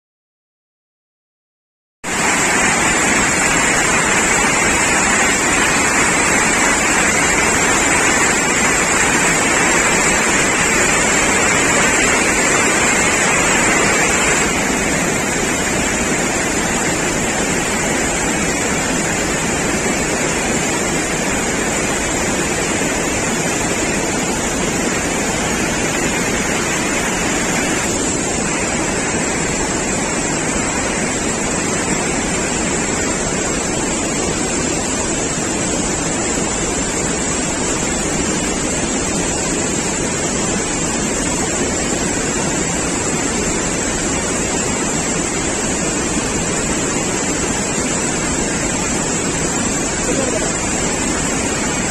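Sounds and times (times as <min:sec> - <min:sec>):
water rushing down spillway: 0:02.1 - 0:51.9.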